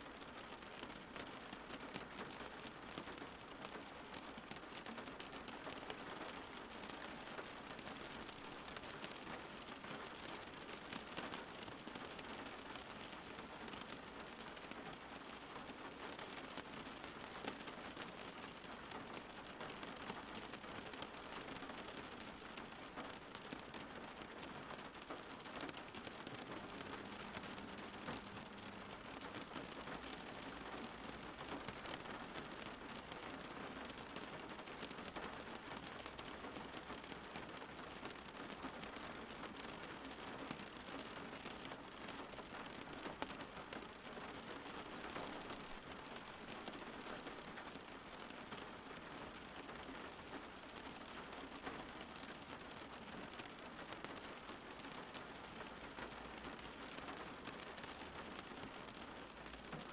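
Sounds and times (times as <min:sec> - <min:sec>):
soft rain pattering: 0:00.0 - 0:59.9.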